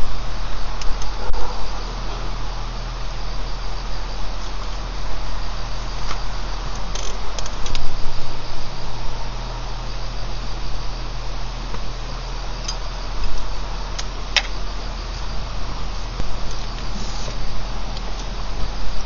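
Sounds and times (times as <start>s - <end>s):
crickets chirping: 0.0s - 19.0s
low hum: 0.0s - 19.0s.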